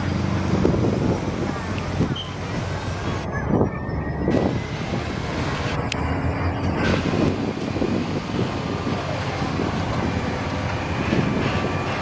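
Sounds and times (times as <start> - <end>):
traffic noise: 0.0 - 12.0
truck diesel engine running: 0.0 - 12.0.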